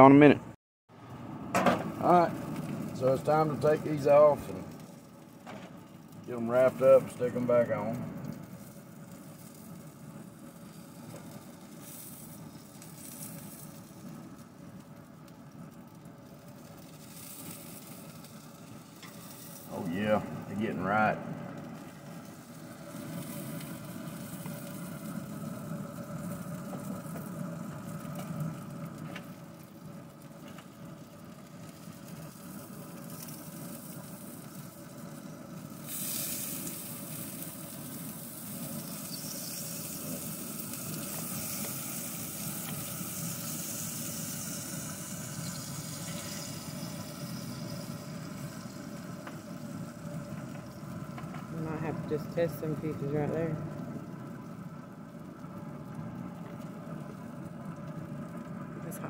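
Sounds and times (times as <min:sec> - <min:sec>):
meat sizzling on grill: 0:00.9 - 0:59.0
pellet grill humming: 0:00.9 - 0:59.0.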